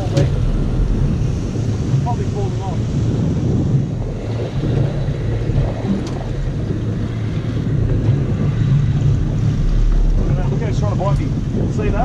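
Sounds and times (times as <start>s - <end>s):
waves washing around boat: 0.0s - 12.0s
wind buffeting microphone: 0.0s - 12.0s.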